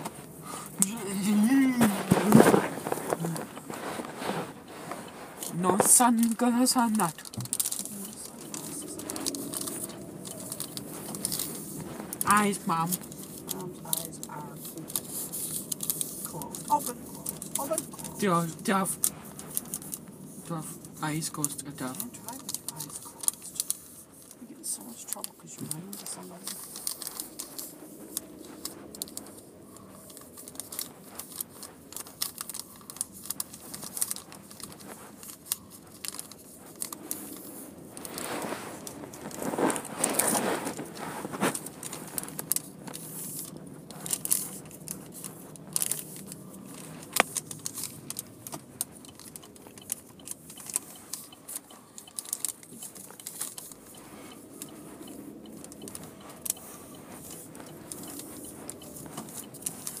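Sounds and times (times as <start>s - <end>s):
handling noise on recorder: 0.0s - 60.0s
rustling: 0.0s - 60.0s.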